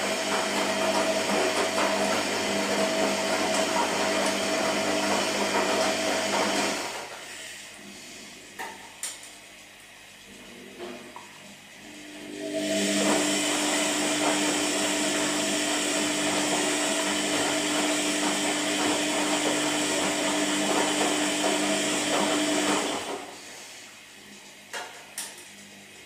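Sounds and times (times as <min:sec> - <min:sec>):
washing machine motor whine: 0:00.0 - 0:26.0.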